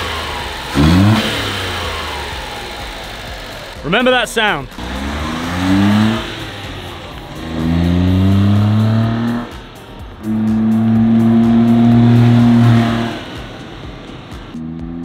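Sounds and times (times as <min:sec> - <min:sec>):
small truck engine accelerating: 0:00.0 - 0:15.0.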